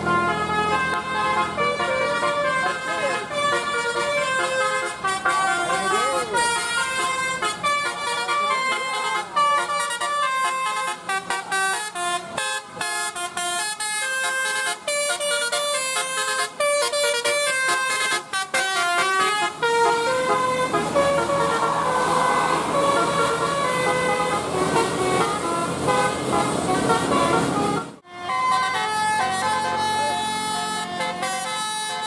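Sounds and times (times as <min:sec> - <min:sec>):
bus horn playing a melody: 0:00.0 - 0:32.0.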